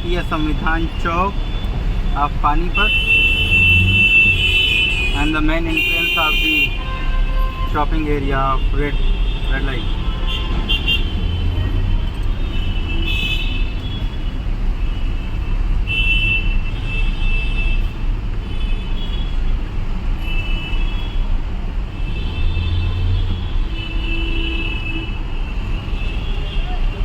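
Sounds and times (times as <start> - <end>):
low rumble of engines: 0.0 - 27.0.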